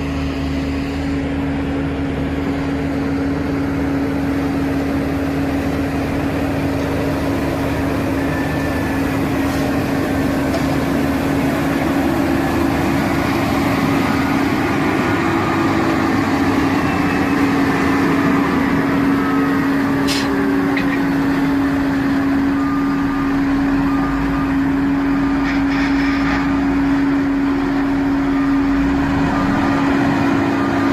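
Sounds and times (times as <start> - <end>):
road-paving machinery droning: 0.0 - 30.9.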